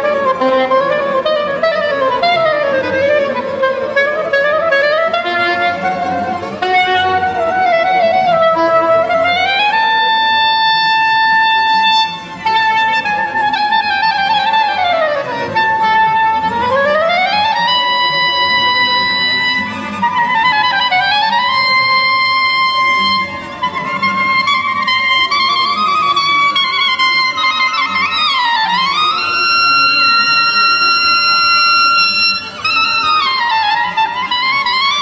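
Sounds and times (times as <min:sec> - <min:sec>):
soprano saxophone: 0:00.0 - 0:35.0
string orchestra: 0:00.0 - 0:35.0.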